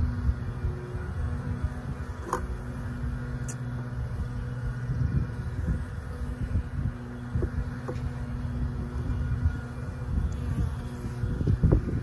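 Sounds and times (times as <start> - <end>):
honeybees buzzing: 0.0 - 12.0
low wind rumble: 0.0 - 12.0.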